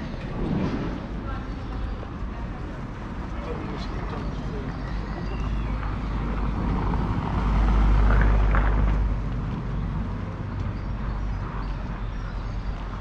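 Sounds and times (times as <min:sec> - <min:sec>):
vehicle passing by: 0:00.2 - 0:13.0.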